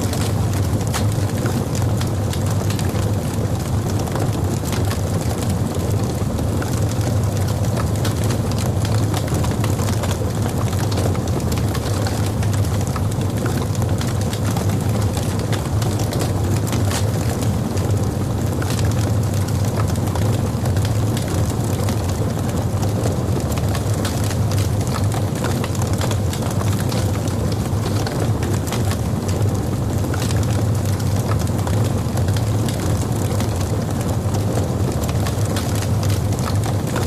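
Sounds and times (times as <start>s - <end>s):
fire rumbling: 0.0s - 37.0s
wood crackling and popping: 0.0s - 37.0s.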